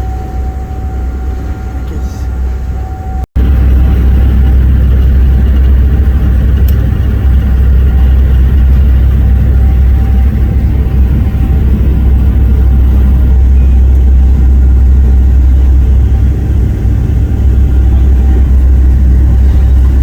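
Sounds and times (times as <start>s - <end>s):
ferry engines low rumble: 0.0s - 20.0s
wind buffeting microphone: 2.8s - 20.0s.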